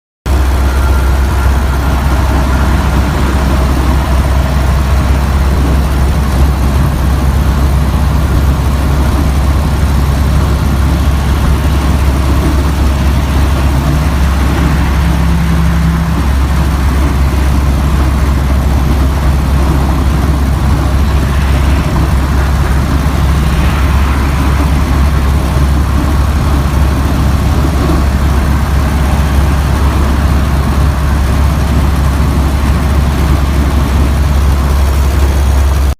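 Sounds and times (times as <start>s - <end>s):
car engine running: 0.2s - 35.9s.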